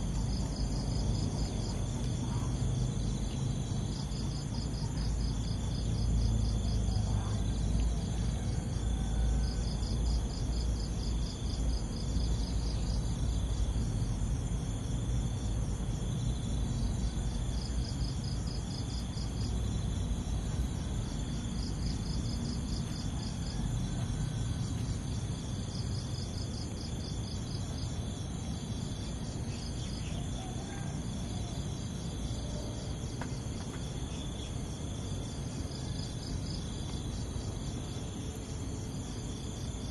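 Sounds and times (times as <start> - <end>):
insects chirring: 0.0 - 39.9
low background rumble: 0.0 - 39.9.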